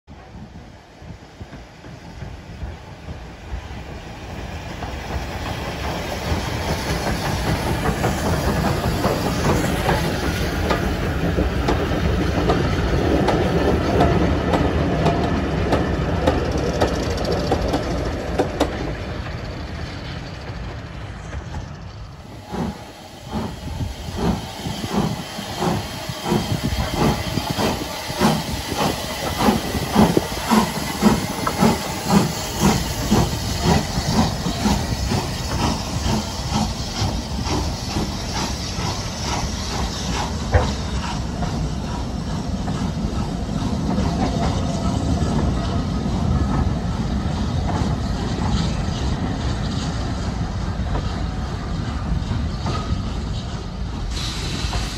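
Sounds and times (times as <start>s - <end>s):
steam locomotive chuffing: 0.2s - 54.9s
steam hissing: 0.3s - 54.9s
train wheels clicking over rail joints: 1.0s - 54.9s.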